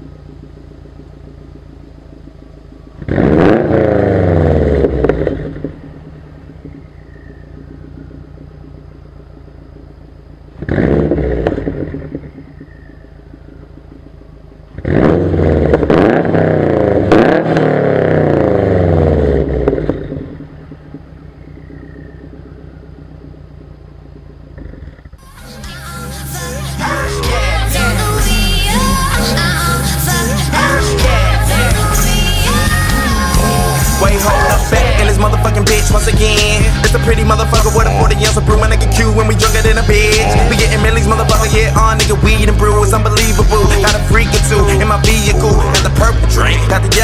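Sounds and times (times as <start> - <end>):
car engine idling: 0.0 - 47.0
car engine revving: 0.0 - 47.0.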